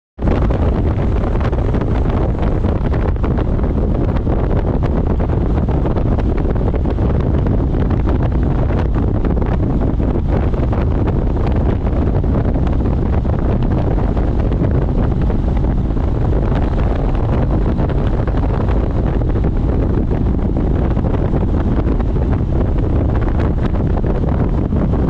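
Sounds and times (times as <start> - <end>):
motorcycle running and road noise: 0.2 - 25.0
wind buffeting microphone: 0.2 - 25.0.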